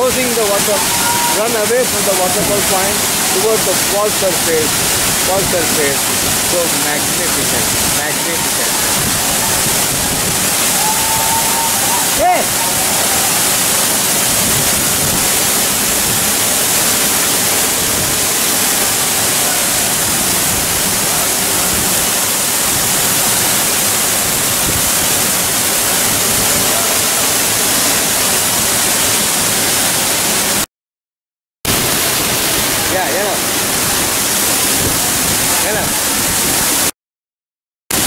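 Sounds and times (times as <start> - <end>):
waterfall pounding into pool: 0.0 - 30.7, 31.7 - 36.9.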